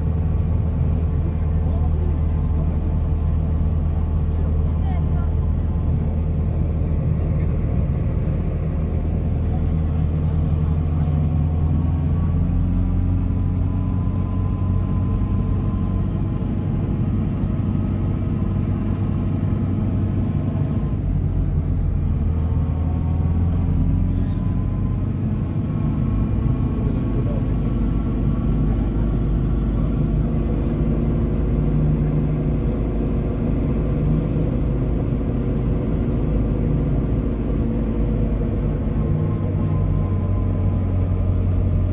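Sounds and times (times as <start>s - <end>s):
car engines running at low speed: 0.0s - 41.9s.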